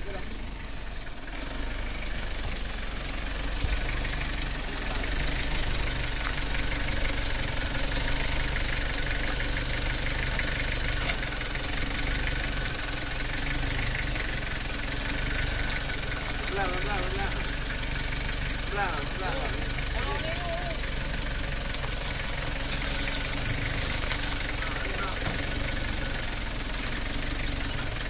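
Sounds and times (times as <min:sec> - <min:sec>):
tractor diesel engines clattering: 0:00.0 - 0:28.0.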